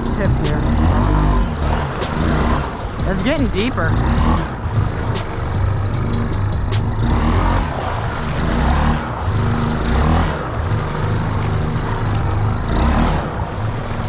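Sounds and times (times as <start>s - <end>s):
atv engine revving: 0.0s - 14.0s
churned water hissing: 0.0s - 14.0s.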